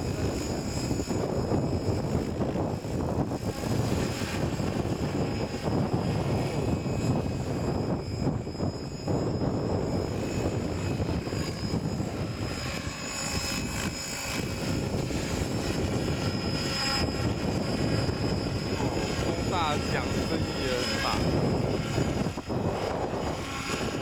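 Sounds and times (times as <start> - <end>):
faint high whine: 0.0 - 24.0
model helicopter rotor noise: 0.0 - 24.0
wind buffeting microphone: 0.0 - 24.0.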